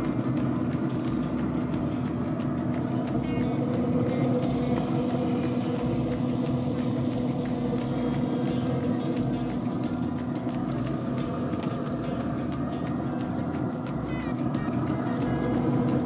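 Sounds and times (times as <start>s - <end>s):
grill fan humming: 0.0s - 16.0s.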